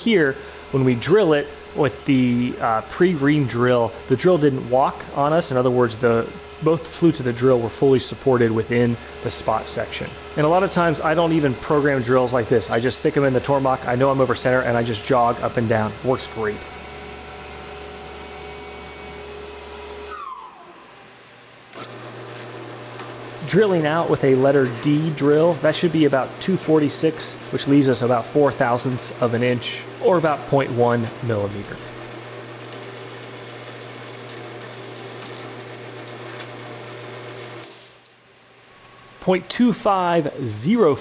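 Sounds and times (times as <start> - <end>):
falling motor whine: 0.0 - 37.6
mill spindle whir: 0.0 - 37.6
drill press motor hum: 0.0 - 38.1.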